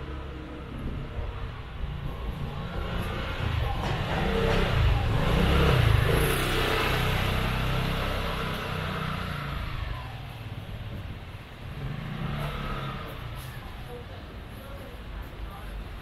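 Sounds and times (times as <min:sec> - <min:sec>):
vehicle engine passing by: 0:00.0 - 0:10.6, 0:11.6 - 0:14.0.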